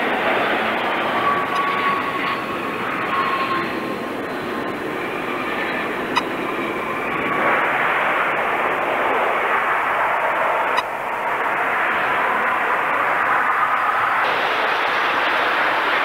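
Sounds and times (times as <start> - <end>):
jet engine noise: 0.0 - 16.0.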